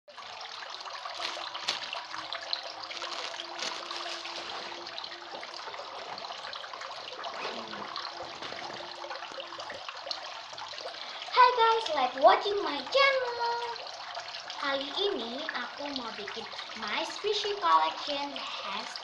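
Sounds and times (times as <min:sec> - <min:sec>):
water trickling: 0:00.1 - 0:19.0.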